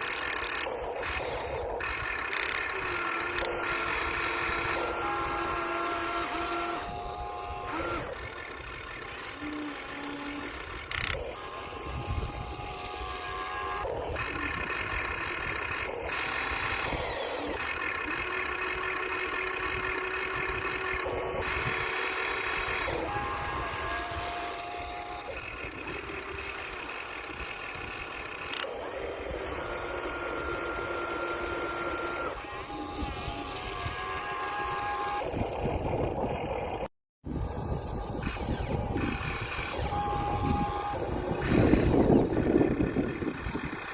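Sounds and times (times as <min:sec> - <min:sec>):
small electric motors whining: 0:00.0 - 0:43.9.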